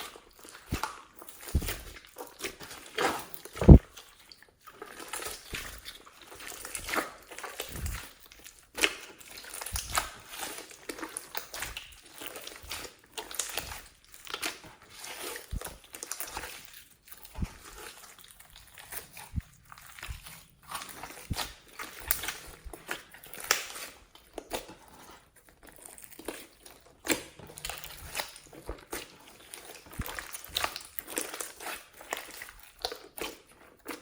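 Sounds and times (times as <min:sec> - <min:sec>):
slime squeezed wet crackles: 0:00.0 - 0:34.0.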